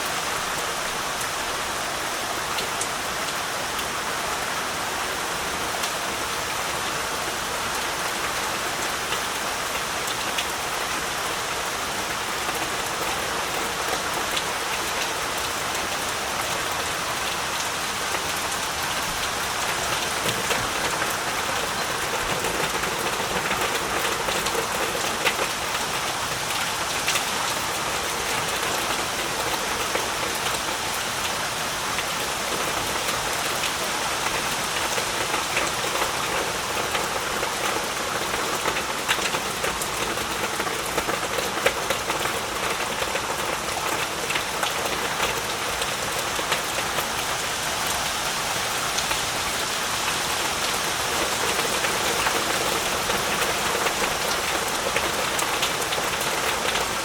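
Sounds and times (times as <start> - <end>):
heavy rain hissing: 0.0 - 57.0
raindrops ticking on surfaces: 0.0 - 57.0.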